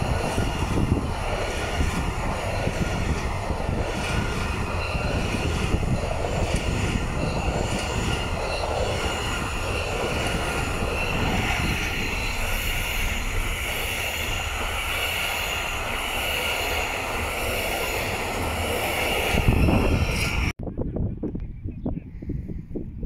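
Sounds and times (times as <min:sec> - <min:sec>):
freight train wagons rumbling: 0:00.0 - 0:20.6
high whine: 0:00.0 - 0:20.6.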